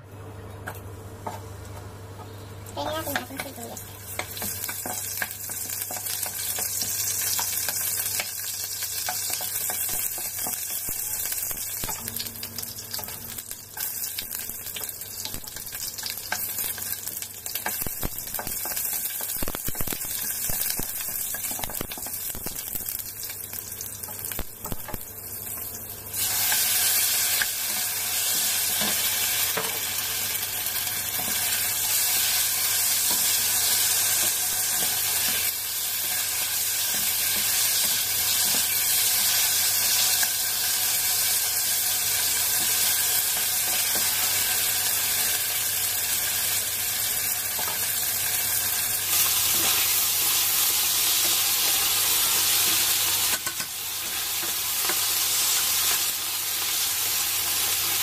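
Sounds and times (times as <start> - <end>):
onions sizzling in hot oil: 0.6 - 58.0.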